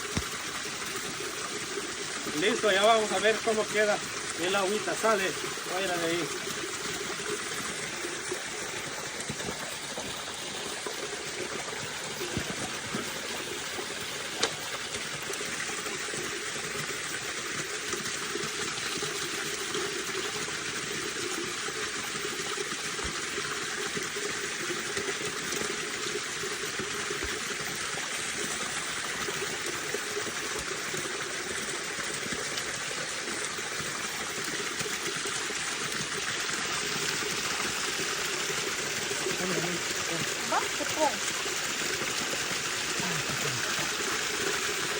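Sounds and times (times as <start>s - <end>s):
water running into a tank: 0.0s - 44.9s.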